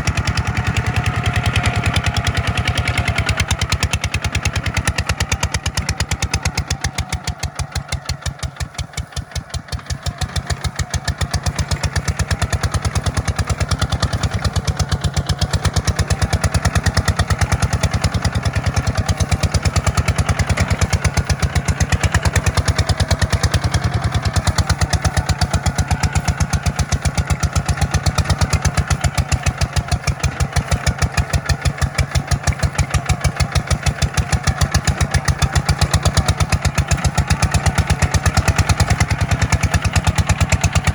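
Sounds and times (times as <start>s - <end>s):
tractor diesel engine chugging: 0.0s - 40.9s.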